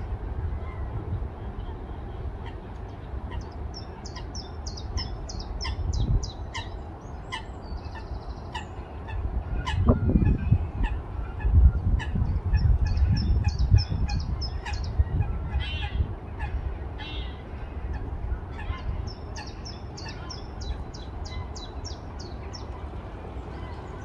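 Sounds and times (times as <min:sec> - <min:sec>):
wind rumbling on microphone: 0:00.0 - 0:24.0
wild birds singing: 0:02.1 - 0:24.0.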